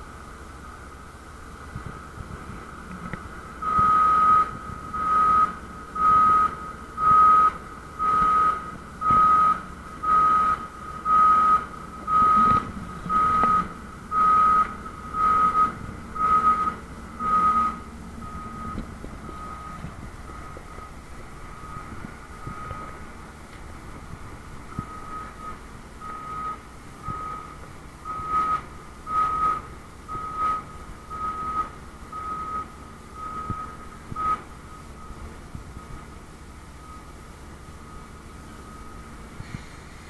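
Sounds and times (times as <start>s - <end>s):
low machinery rumble: 0.0s - 40.0s
back-up warning beeps: 3.0s - 40.0s.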